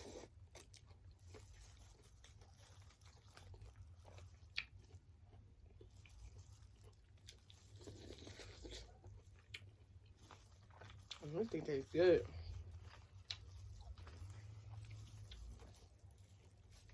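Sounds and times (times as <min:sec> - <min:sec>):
chewing corn on the cob: 0:00.0 - 0:16.9.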